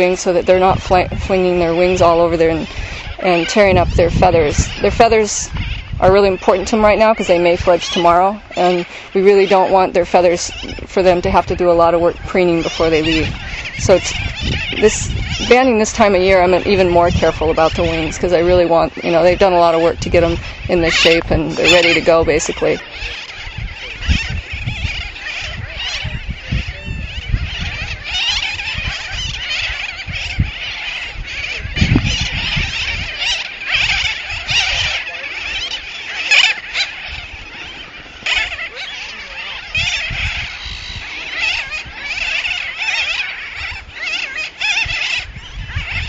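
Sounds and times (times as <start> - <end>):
seabirds calling: 0.0 - 46.0.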